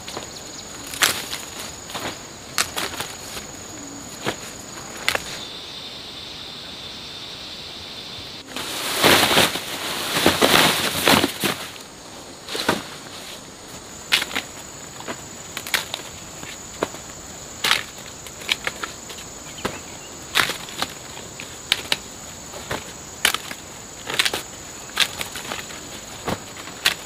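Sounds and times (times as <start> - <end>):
rustling and crackling: 0.0 - 5.4, 8.4 - 27.0
insects droning: 0.0 - 27.0.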